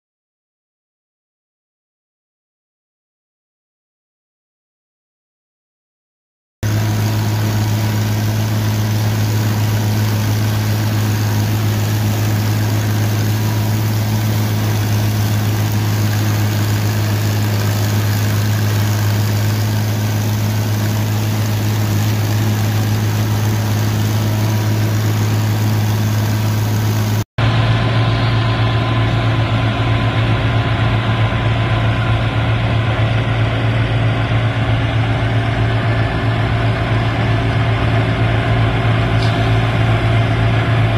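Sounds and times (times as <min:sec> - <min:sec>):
tractor and chopper droning: 0:06.6 - 0:40.9.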